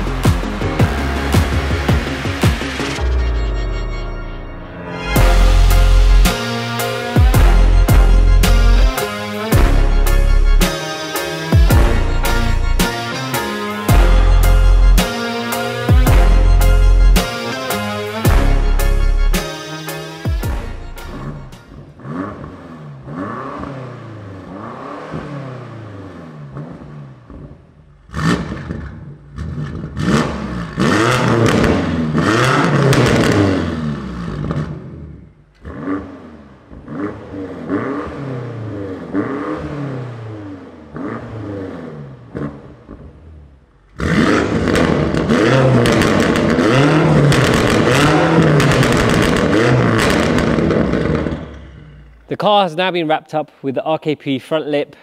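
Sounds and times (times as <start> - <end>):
car exhaust revving: 0.0 - 52.3.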